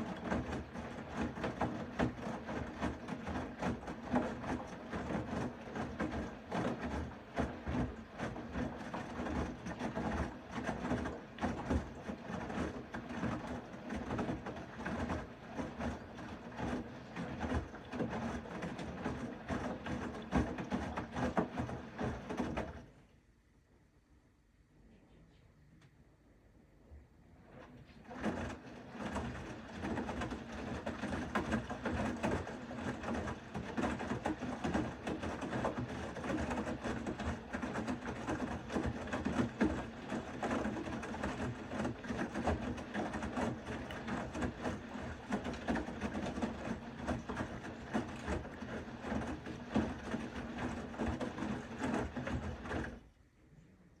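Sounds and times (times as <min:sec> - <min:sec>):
washing machine motor hum: 0:00.0 - 0:23.0, 0:26.8 - 0:53.9.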